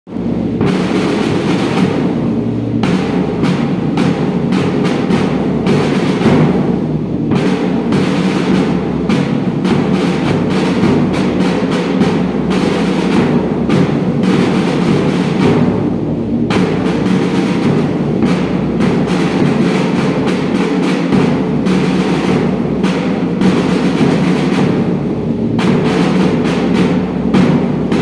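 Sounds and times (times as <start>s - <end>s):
bass drum beats: 0.1s - 28.0s
side drums beating: 0.1s - 28.0s.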